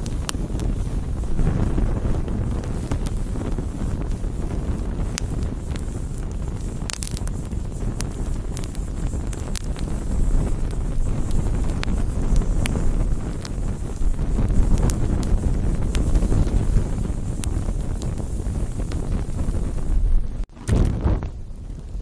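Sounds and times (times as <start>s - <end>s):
steady low rumble: 0.0s - 22.0s
wood campfire crackling: 0.0s - 22.0s.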